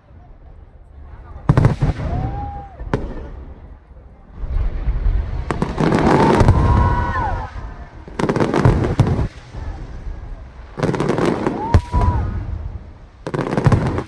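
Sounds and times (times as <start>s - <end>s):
low rumble of booms: 0.0s - 14.0s
fireworks bangs and crackling: 0.1s - 14.0s.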